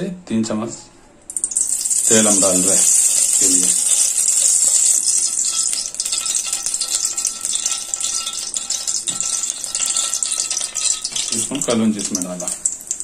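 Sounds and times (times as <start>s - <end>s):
oil hissing in a hot pot: 1.3s - 13.0s.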